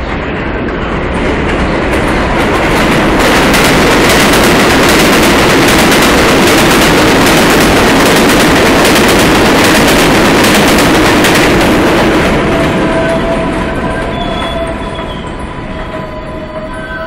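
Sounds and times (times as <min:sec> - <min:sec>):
subway train passing at speed: 0:00.0 - 0:17.0.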